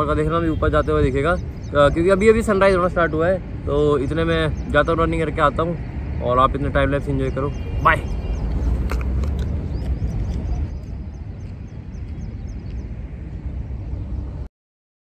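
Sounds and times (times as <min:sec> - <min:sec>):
wind rumbling on microphone: 0:00.0 - 0:14.5.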